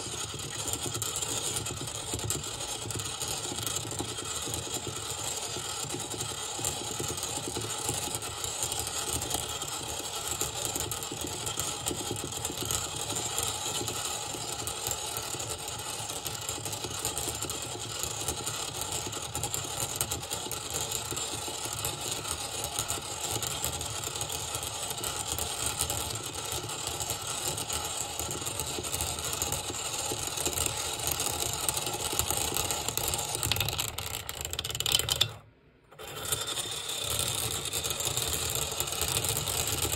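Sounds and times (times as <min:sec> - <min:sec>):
fast fine rattle: 0:00.0 - 0:39.9
stirrer motor whirring: 0:00.0 - 0:39.9.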